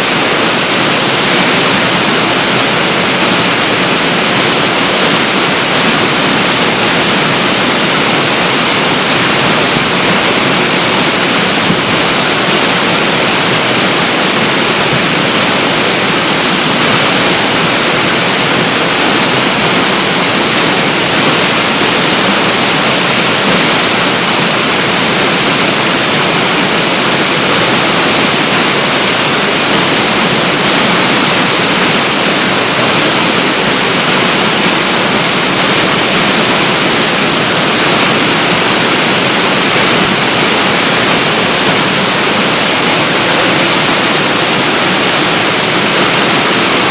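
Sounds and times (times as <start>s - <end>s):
waterfall rushing into pool: 0.0s - 46.9s.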